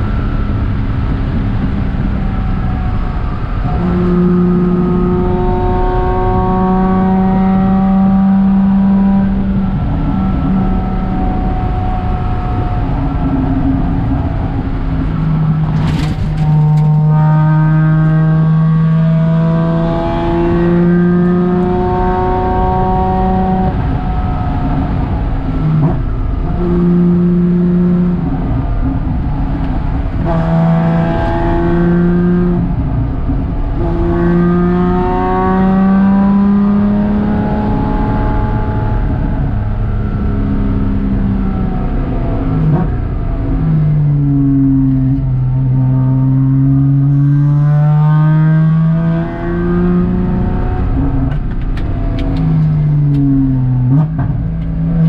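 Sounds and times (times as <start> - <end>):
car engine revving: 0.0 - 55.0
low road rumble: 0.0 - 55.0.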